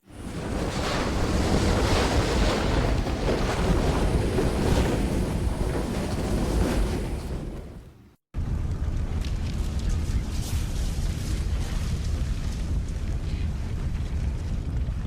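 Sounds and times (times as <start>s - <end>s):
strong wind rumbling: 0.0s - 15.0s.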